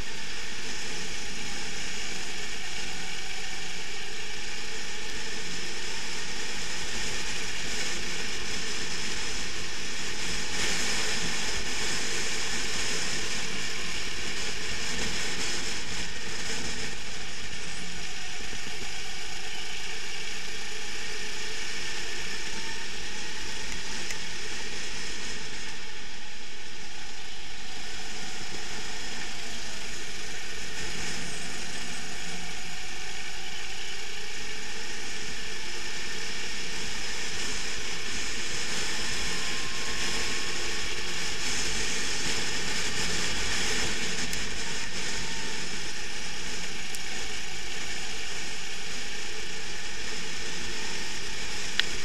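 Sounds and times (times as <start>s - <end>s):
kart engine running: 0.0s - 52.0s.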